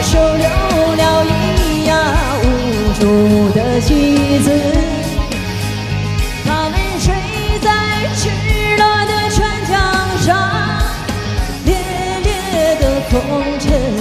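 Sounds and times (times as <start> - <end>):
woman singing: 0.0 - 5.4, 6.4 - 14.0
pop band with drum beat: 0.0 - 14.0.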